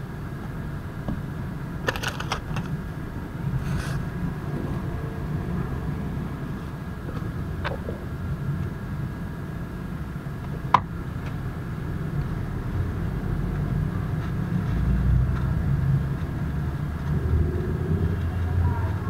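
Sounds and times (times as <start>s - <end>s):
traffic: 0.0s - 19.0s
vehicle engine rumble: 0.0s - 19.0s.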